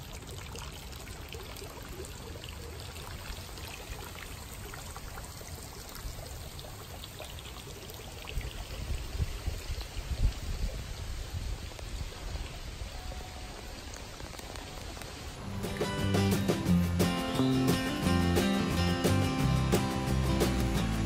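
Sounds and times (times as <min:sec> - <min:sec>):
water trickling into pond: 0:00.0 - 0:18.4.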